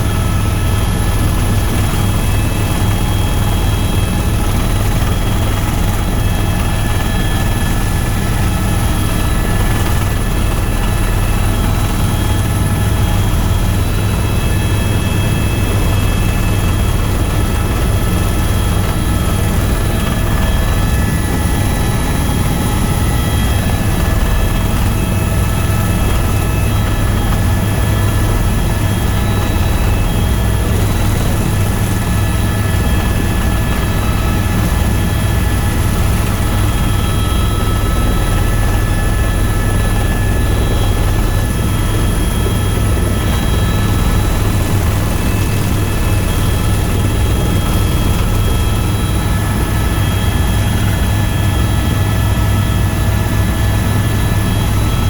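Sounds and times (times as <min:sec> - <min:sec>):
helicopter rotor and engine drone: 0:00.0 - 0:55.0
high steady whine tones: 0:00.0 - 0:55.0.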